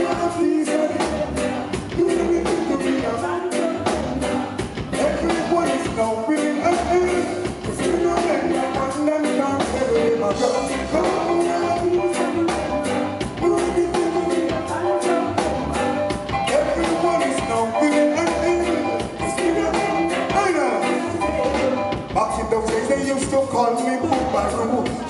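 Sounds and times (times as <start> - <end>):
reggae band playing: 0.0 - 25.0.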